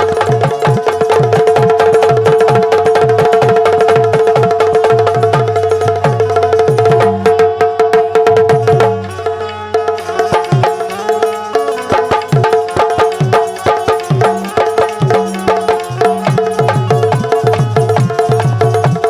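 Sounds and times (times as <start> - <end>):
hand drum rhythm: 0.0 - 19.0.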